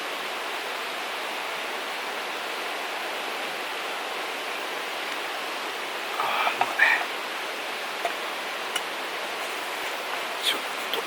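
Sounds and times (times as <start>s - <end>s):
outdoor rushing background noise: 0.0s - 11.0s.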